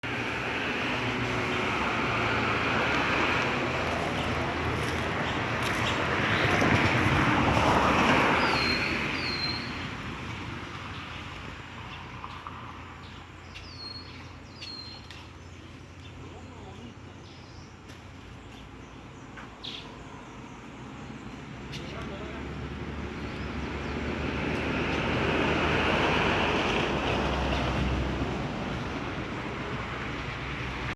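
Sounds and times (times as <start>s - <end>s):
vehicle passing by: 0.0s - 30.9s.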